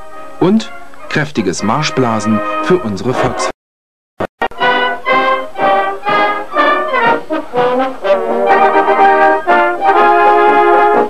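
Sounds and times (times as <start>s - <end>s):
marching band playing a march: 0.0s - 3.5s, 4.4s - 11.0s.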